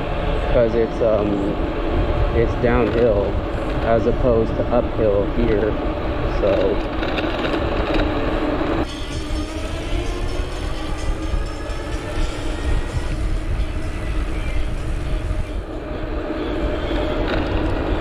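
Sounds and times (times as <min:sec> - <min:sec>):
bike tyres rolling on asphalt: 0:00.0 - 0:18.0
wind rushing over microphone: 0:00.0 - 0:18.0.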